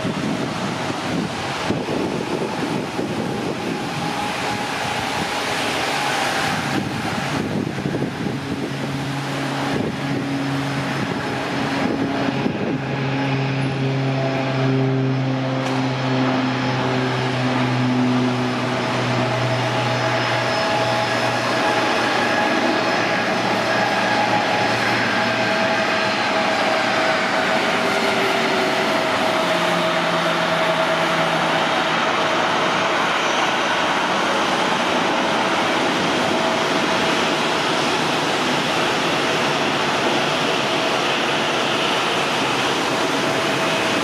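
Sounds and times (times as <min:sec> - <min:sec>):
propeller drone: 0:00.0 - 0:44.0.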